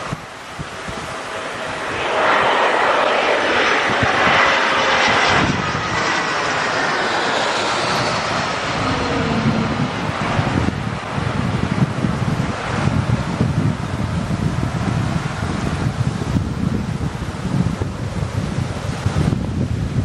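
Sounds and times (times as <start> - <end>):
jet airliner passing overhead: 0.0 - 20.0
wind buffeting microphone: 0.0 - 20.0.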